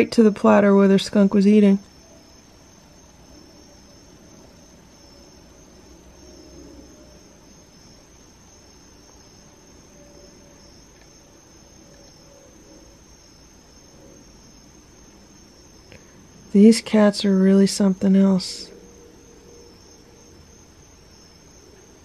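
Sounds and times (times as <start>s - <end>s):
crickets chirping: 0.0s - 22.0s
low background hiss: 0.0s - 22.0s.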